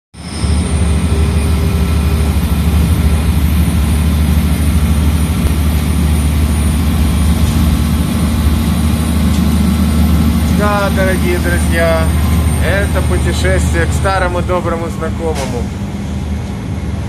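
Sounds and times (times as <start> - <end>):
rumble of running train: 0.1 - 17.0
train engine drone: 0.2 - 17.0.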